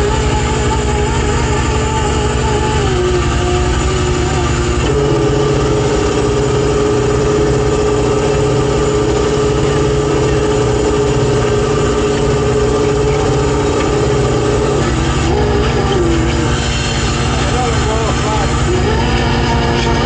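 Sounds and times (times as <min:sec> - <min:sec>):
boat engine rumbling: 0:00.0 - 0:20.0
steady engine whine: 0:00.0 - 0:20.0.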